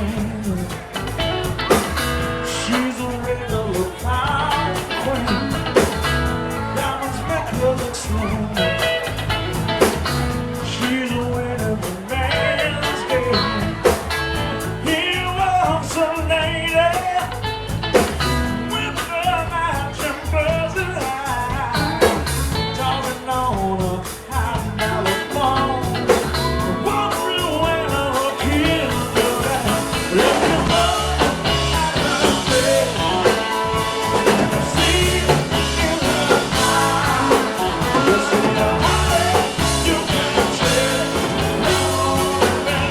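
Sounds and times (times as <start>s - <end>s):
blues-rock band playing live: 0.0s - 42.9s.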